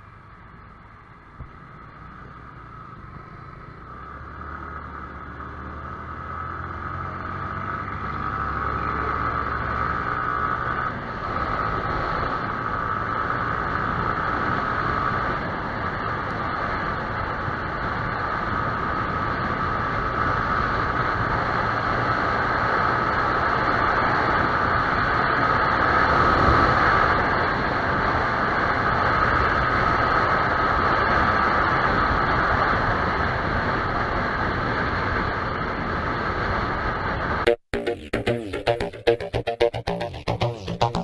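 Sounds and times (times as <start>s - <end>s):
wind and road noise: 0.0s - 37.4s.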